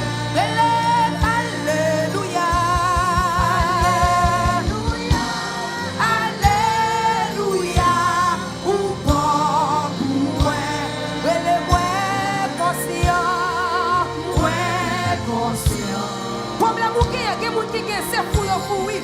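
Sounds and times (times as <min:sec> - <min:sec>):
bass drum beats: 0:00.0 - 0:19.0
gospel band playing: 0:00.0 - 0:19.0
person singing with vibrato: 0:00.0 - 0:19.0.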